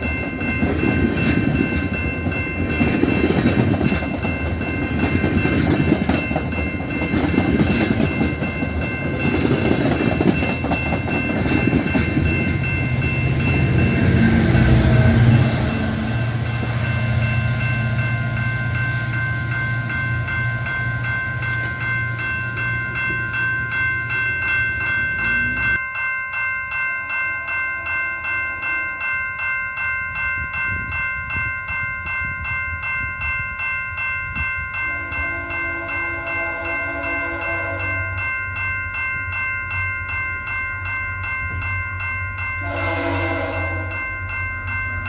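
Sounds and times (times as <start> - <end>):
train rumbling: 0.0 - 25.8, 27.1 - 45.0
crossing warning bell ringing: 0.0 - 45.0.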